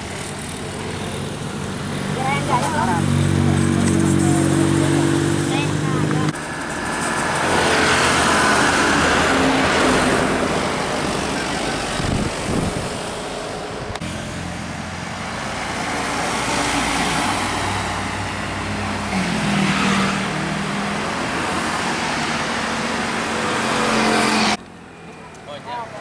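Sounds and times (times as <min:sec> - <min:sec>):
road traffic driving past: 0:00.0 - 0:26.0.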